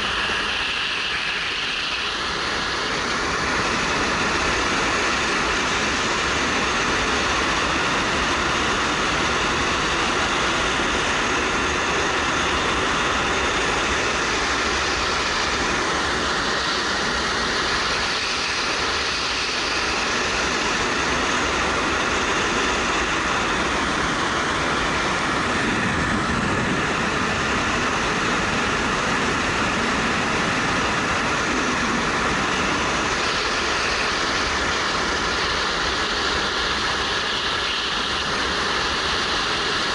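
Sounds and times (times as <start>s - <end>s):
wind rush over camera: 1.7s - 37.4s.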